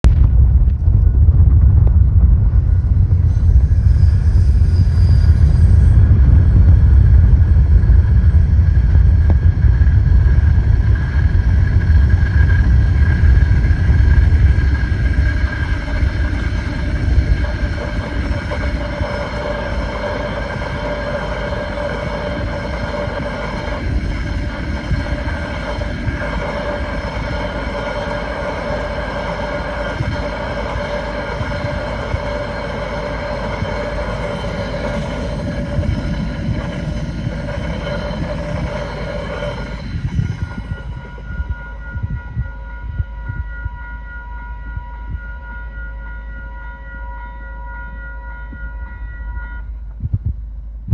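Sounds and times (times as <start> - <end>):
train passing with rumble: 0.0 - 50.9.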